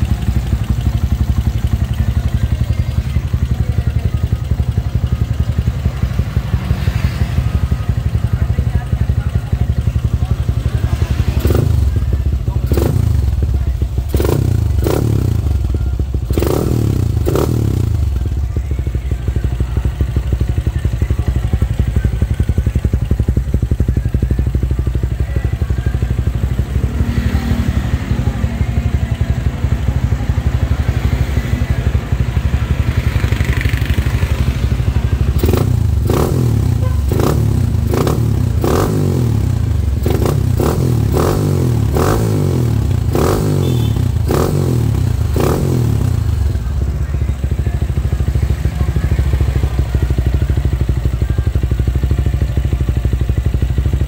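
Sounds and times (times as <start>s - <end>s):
motorcycle engine throttle blips: 0.0s - 54.0s.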